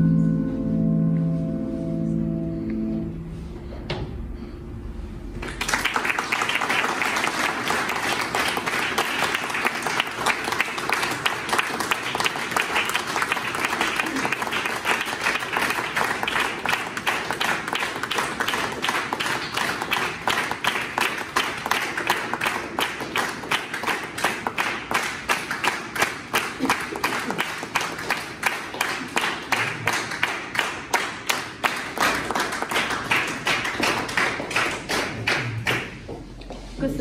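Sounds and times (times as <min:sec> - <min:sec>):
audience applauding: 0:05.4 - 0:36.2.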